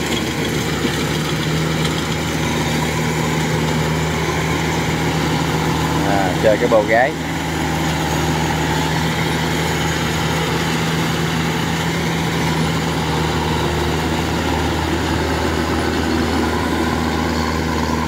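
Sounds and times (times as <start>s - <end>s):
diesel engine humming: 0.0s - 18.0s
machinery rattling: 0.0s - 18.0s.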